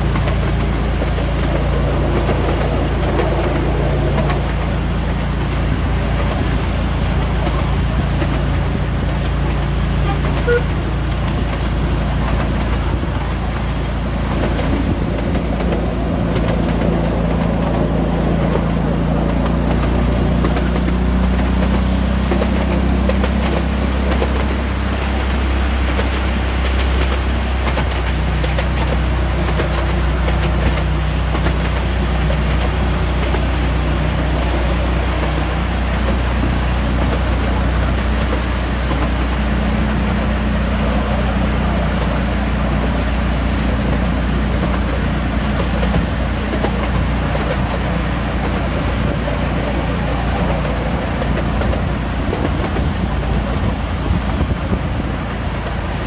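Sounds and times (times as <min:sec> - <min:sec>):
locomotive engine drone: 0:00.0 - 0:56.0
train rumbling on rails: 0:00.0 - 0:56.0.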